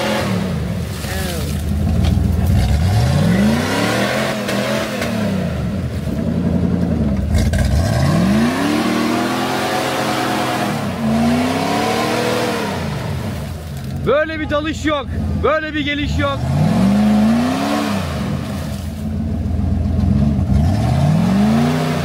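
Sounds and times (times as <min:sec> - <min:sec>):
suv engine revving: 0:00.0 - 0:22.0.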